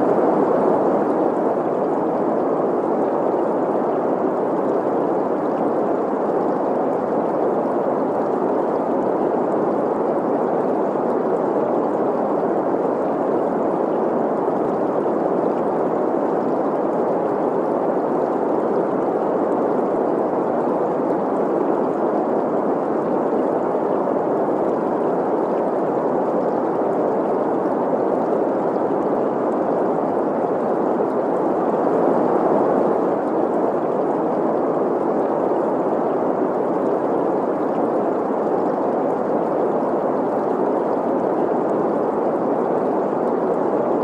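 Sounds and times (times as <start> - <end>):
stream water flowing: 0.0 - 44.0.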